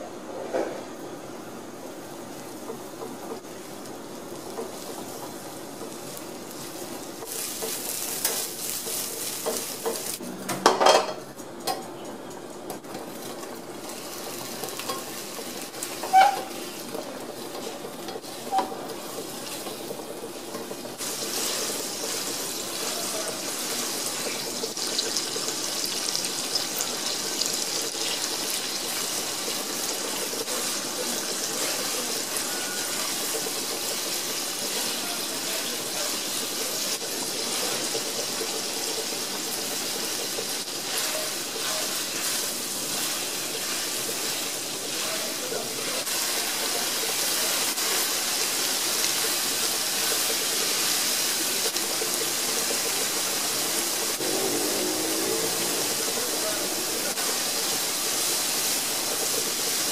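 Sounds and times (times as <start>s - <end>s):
food sizzling in oil: 1.9s - 11.2s, 12.8s - 59.9s.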